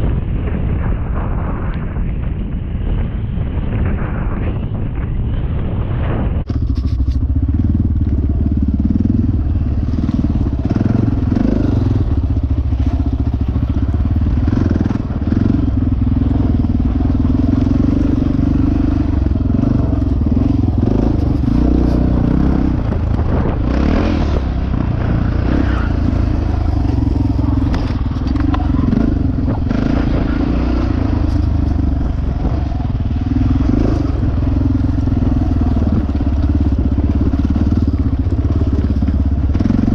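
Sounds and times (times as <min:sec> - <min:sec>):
dirt bike engine revving: 0:06.5 - 0:39.9.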